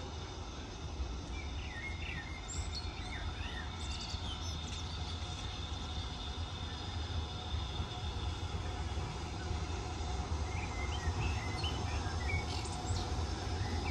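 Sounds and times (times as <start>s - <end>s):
faint high hum: 0.0s - 13.9s.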